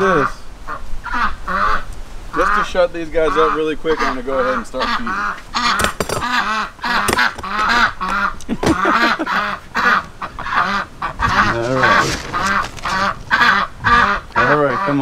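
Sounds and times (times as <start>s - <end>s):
ducks quacking: 0.0s - 15.0s
geese honking: 0.0s - 15.0s.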